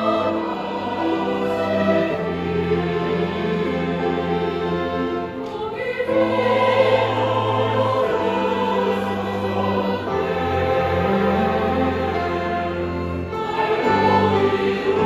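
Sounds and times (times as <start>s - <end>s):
choir singing a hymn: 0.0s - 15.0s
organ: 0.0s - 15.0s
piano: 0.0s - 15.0s
violins: 0.0s - 15.0s.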